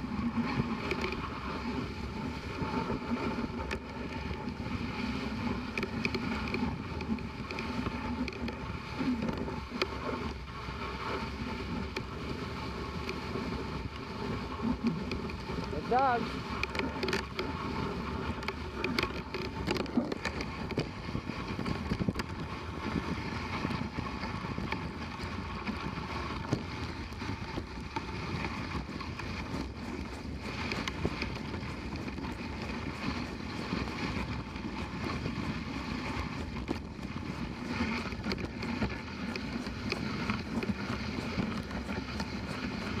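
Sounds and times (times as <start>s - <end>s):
sled knocking and rattling: 0.0s - 43.0s
sled runners scraping snow: 0.0s - 43.0s
wind buffeting microphone: 0.0s - 43.0s.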